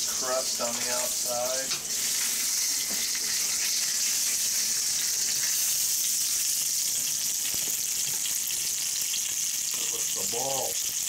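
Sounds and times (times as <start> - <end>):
meat sizzling in a skillet: 0.0 - 11.0.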